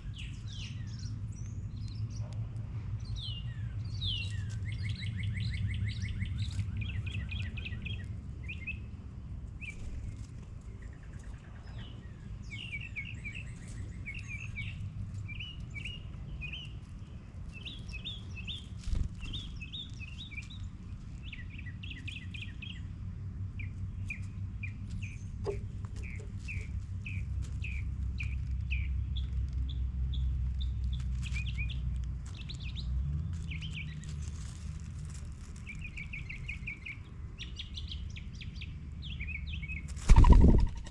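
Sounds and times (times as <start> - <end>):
small songbirds chirping: 0.0 - 40.9
steady low rumble: 0.0 - 40.9.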